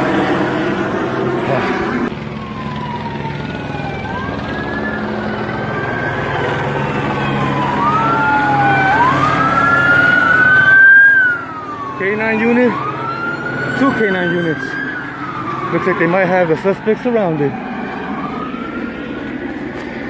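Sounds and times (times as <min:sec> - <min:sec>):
police sirens wailing: 0:00.0 - 0:20.0.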